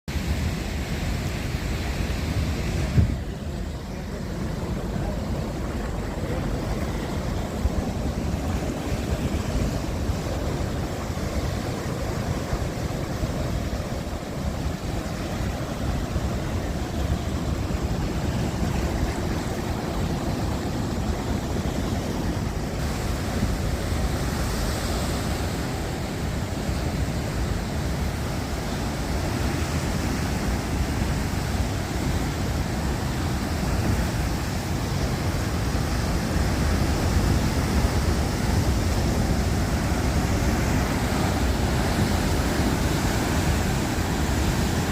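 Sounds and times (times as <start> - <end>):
surf washing onto beach: 0.1 - 44.9
wind on microphone: 0.2 - 44.9.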